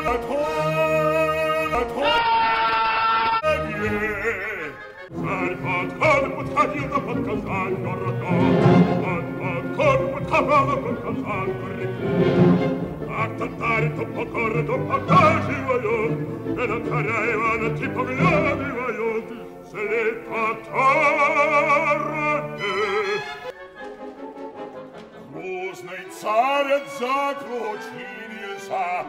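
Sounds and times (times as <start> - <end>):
orchestra accompaniment: 0.0 - 2.4, 3.4 - 29.0
operatic singing with vibrato: 0.0 - 29.0.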